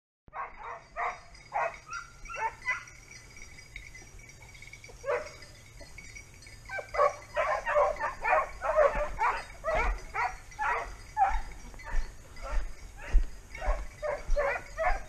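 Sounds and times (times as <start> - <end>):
hounds baying and barking: 0.3 - 15.0.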